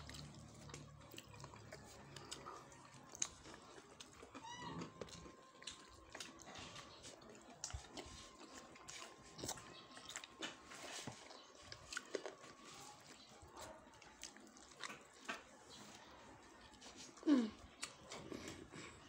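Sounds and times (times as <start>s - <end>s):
child chewing: 0.0s - 19.0s.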